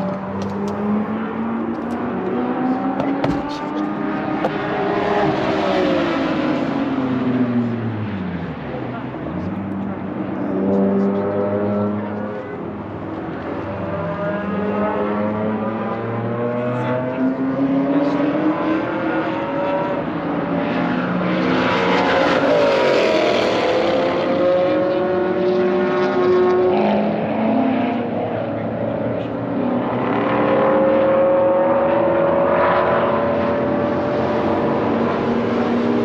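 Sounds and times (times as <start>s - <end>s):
race car engines accelerating: 0.0s - 36.0s
race car passing close: 0.0s - 36.0s.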